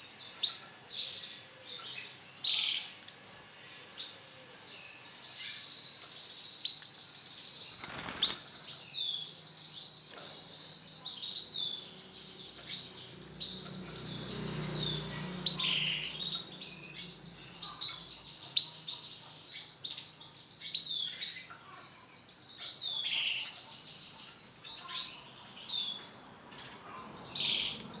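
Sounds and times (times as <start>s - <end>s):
canary singing trills: 0.1s - 28.0s.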